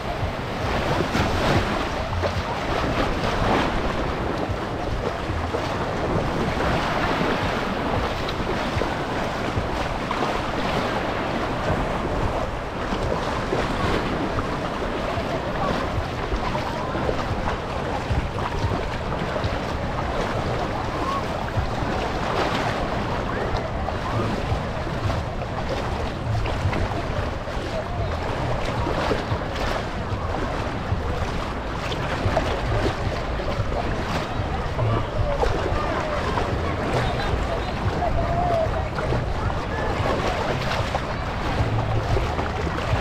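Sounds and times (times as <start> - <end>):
small waves lapping: 0.0 - 43.0
wind rumble on microphone: 0.0 - 43.0.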